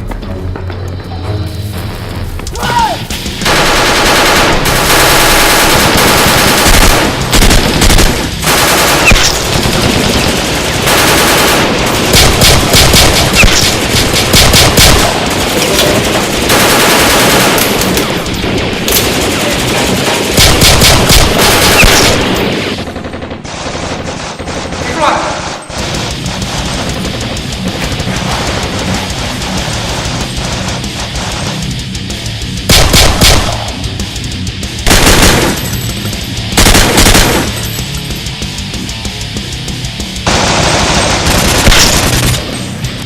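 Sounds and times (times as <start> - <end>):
background music: 0.0 - 43.0
rapid automatic gunfire: 3.4 - 31.9, 32.7 - 33.7, 34.8 - 37.8, 40.2 - 42.5.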